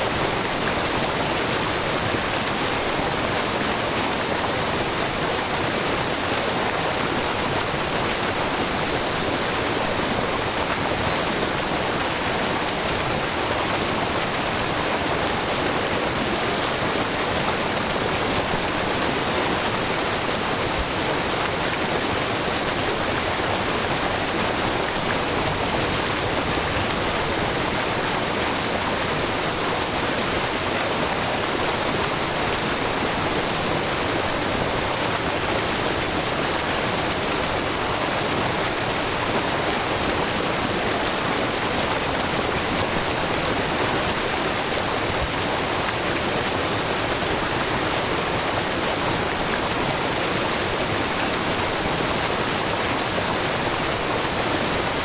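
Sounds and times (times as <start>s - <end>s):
waterfall splashing over rock: 0.0s - 55.0s.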